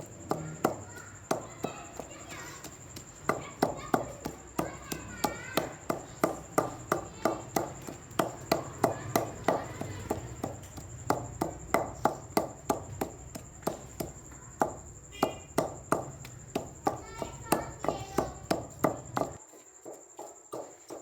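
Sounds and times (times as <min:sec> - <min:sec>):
pestle pounding in a mortar: 0:00.0 - 0:21.0.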